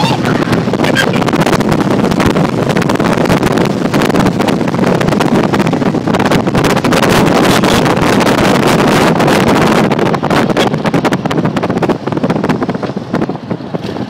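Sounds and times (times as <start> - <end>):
motorcycle engine running: 0.0 - 14.0
wind buffeting the microphone: 0.0 - 14.0.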